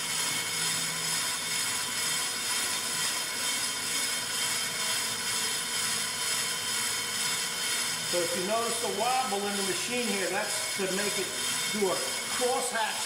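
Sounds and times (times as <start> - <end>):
brake lathe whining: 0.0 - 13.0.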